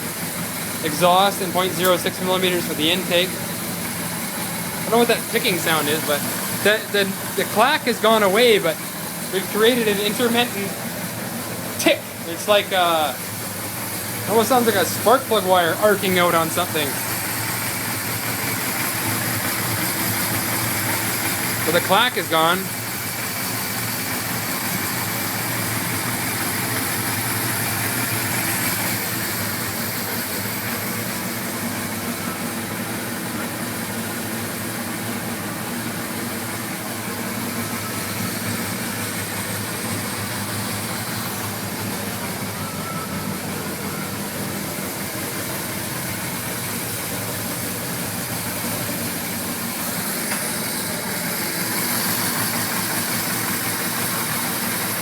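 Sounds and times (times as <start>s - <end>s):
intermittent engine tick: 0.0s - 55.0s
motorcycle engine idling: 0.0s - 55.0s.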